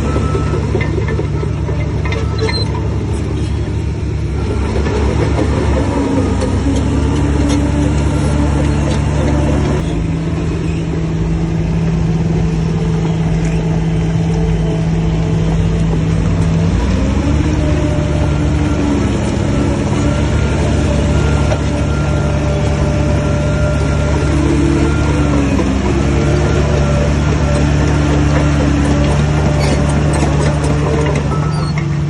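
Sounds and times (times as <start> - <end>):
bulldozer diesel engine under load: 0.0 - 32.0.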